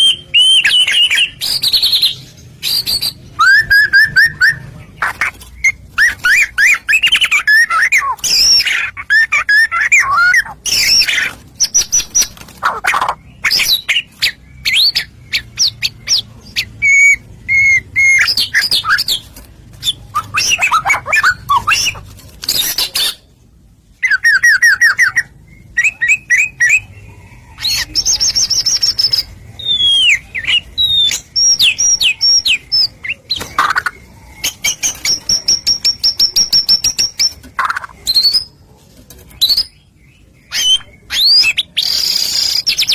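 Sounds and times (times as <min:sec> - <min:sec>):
bird singing whistled song: 0:00.0 - 0:04.7, 0:05.6 - 0:12.3, 0:13.4 - 0:19.2, 0:19.8 - 0:22.0, 0:24.0 - 0:37.4, 0:38.0 - 0:38.5, 0:40.5 - 0:42.9.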